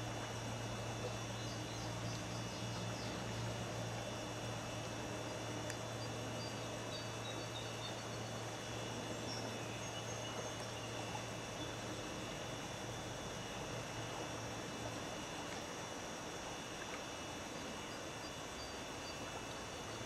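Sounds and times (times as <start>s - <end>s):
low steady hum: 0.0s - 20.0s
insects trilling: 0.4s - 14.6s, 17.5s - 20.0s.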